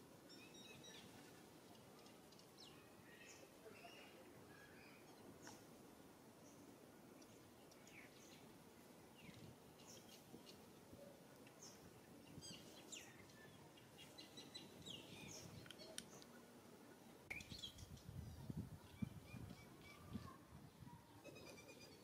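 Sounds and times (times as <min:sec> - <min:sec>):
small birds chirping: 0:00.2 - 0:05.8, 0:06.4 - 0:22.0.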